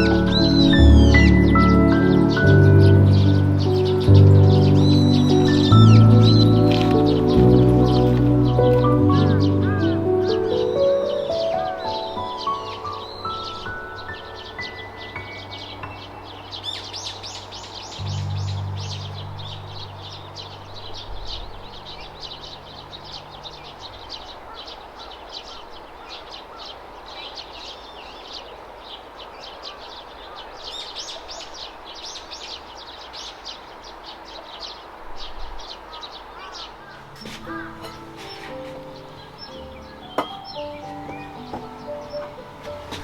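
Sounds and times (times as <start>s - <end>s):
birds chirping: 0.0s - 43.0s
outdoor ambience: 0.0s - 43.0s.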